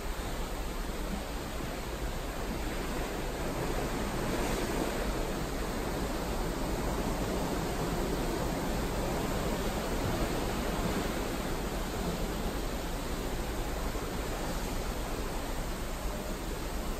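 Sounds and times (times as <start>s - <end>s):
seawater rushing along hull: 0.0s - 16.9s.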